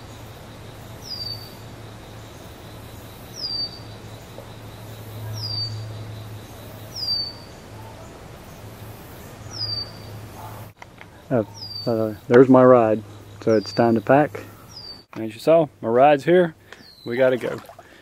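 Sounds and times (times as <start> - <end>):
songbird calling: 0.0 - 15.3, 16.6 - 18.0.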